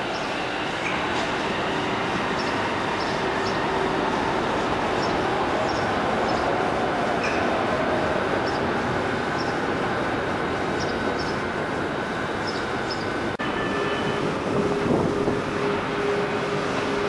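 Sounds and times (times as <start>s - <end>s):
electric trains humming: 0.0s - 17.0s
station background noise: 0.0s - 17.0s.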